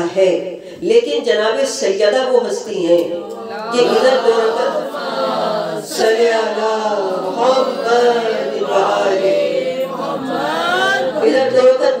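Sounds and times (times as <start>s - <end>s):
woman reciting sing-song: 0.0s - 12.0s.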